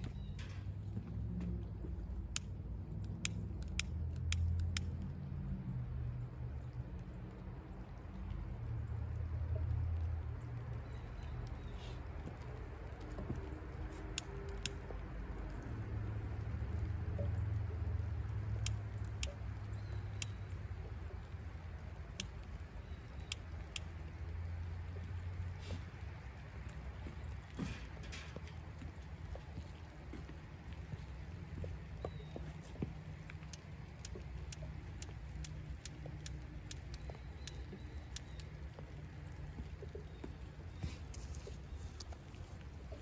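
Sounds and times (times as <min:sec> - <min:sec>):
wood fire crackling and popping: 0:00.0 - 0:43.0.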